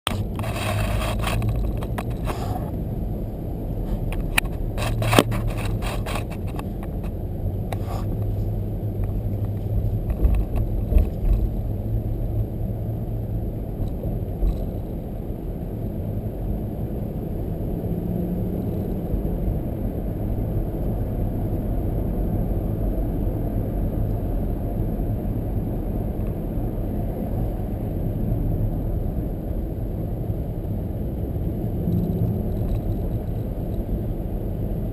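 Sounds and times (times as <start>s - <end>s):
car road rumble: 0.0s - 34.9s.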